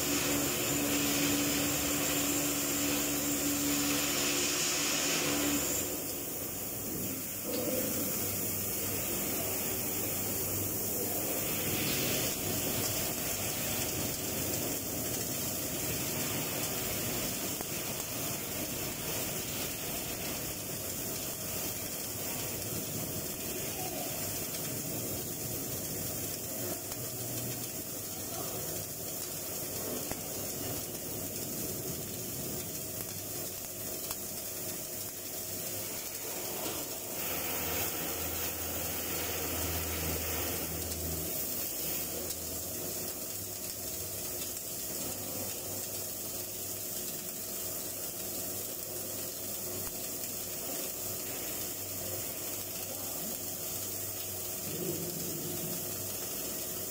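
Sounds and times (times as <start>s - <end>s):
welding arc hissing: 0.0s - 56.9s.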